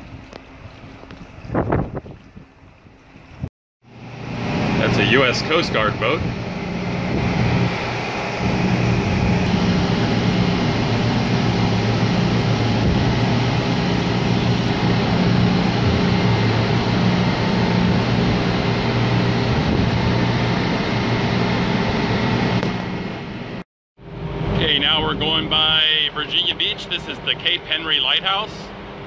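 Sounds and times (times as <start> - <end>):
low machinery hum: 0.0 - 29.0
even rushing noise: 4.0 - 29.0.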